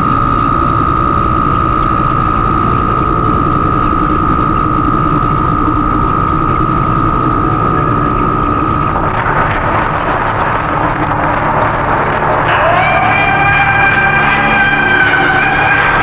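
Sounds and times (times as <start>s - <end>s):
rattling mechanical drone: 0.0s - 16.0s
steady high tone: 2.8s - 16.0s.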